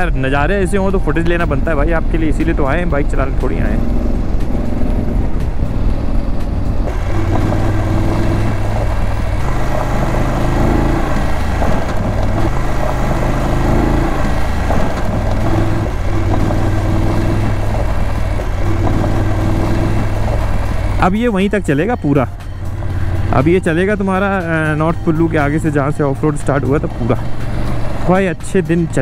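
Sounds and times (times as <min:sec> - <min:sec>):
motorcycle engine running: 0:00.0 - 0:29.0
road noise: 0:00.0 - 0:29.0
wind: 0:00.0 - 0:29.0.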